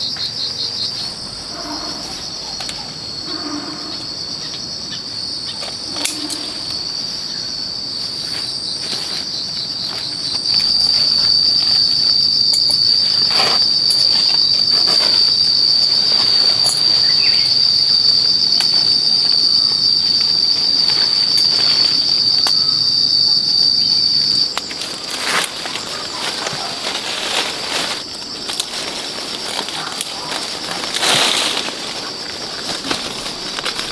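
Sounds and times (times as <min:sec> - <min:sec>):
shrill insect buzz: 0:00.0 - 0:33.9.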